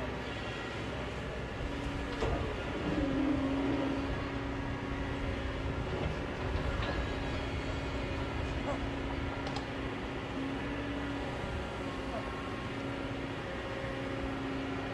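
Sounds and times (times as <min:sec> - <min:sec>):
excavator engine drone: 0:00.0 - 0:14.9.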